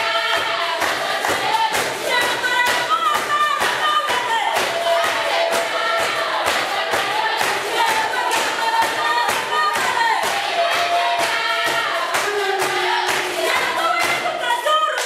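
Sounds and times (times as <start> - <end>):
steady percussive beat: 0.0 - 14.7
children singing in chorus: 0.0 - 15.0.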